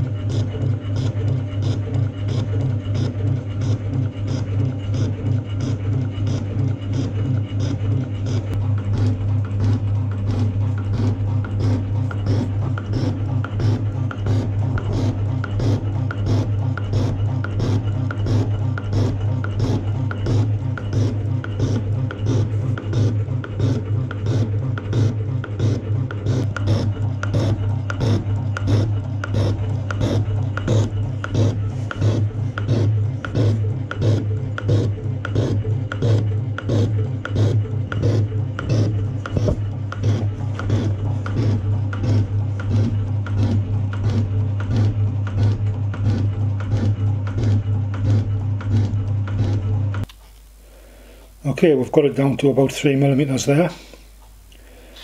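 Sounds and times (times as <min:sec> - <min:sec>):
shaper ram stroke clatter: 0:00.0 - 0:50.2
metal shaper motor hum: 0:00.0 - 0:53.6.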